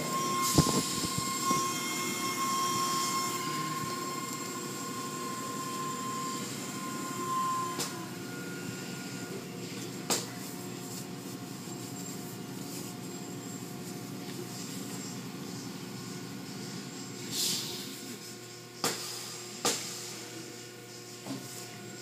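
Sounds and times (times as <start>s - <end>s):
car wash machinery running: 0.0s - 22.0s
thin mechanical whine: 0.0s - 22.0s.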